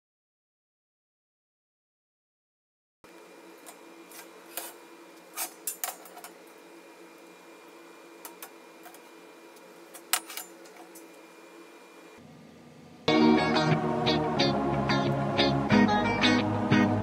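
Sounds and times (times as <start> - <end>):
steady low hum: 3.1 - 17.0.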